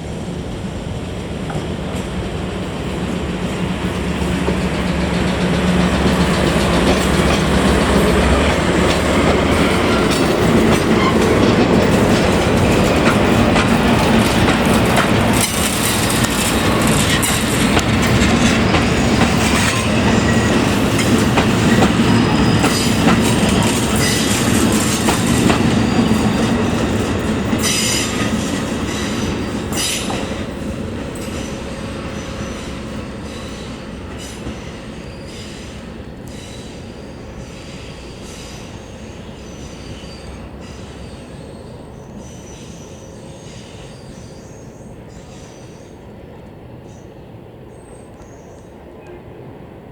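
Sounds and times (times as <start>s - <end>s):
train wheels clattering on rails: 0.4s - 46.6s.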